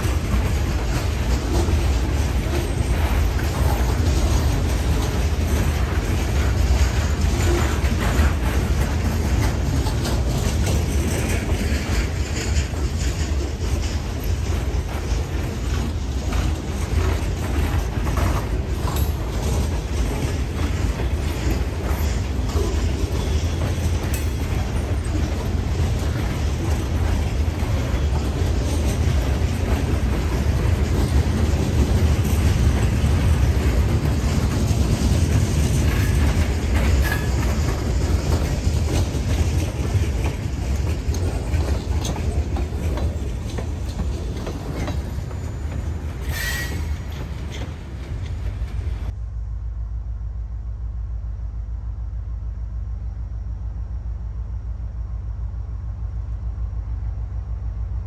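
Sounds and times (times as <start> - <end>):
train wheel clicks: 0.0 - 49.2
freight train rumbling past: 0.0 - 58.0.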